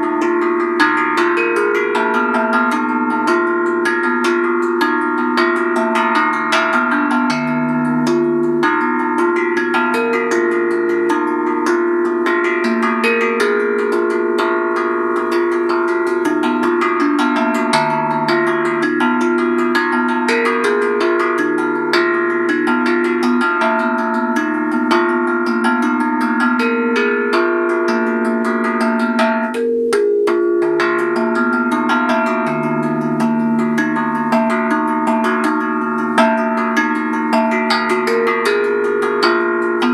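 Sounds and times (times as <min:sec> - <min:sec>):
handpan played with fingers: 0:00.0 - 0:39.9.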